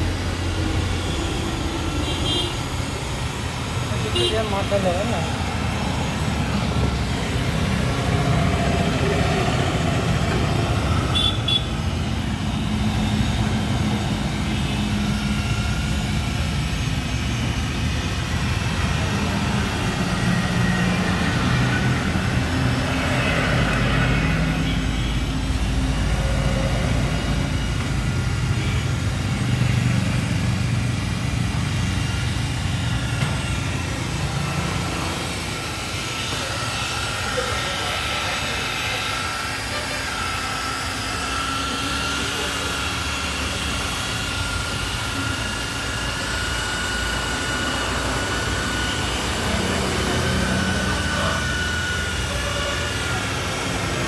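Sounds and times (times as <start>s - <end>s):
electric car polisher running: 0.0s - 54.0s.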